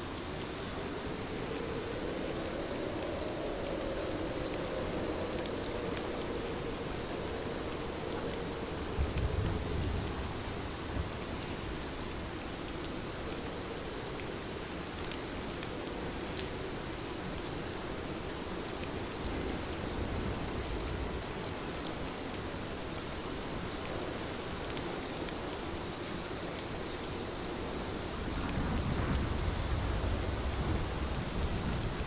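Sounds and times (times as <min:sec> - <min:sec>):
heavy rain hissing: 0:00.0 - 0:14.9, 0:15.8 - 0:32.0.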